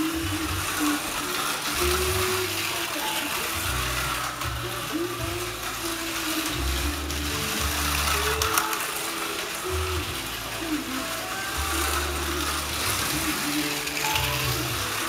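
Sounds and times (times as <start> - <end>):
slot car motors whirring: 0.0 - 15.0.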